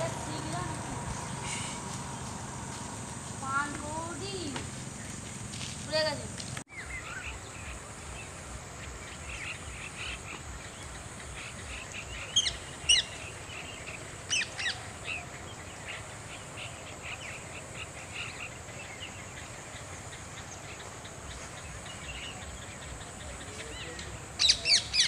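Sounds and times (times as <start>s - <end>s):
flock of birds chirping: 0.0s - 25.0s.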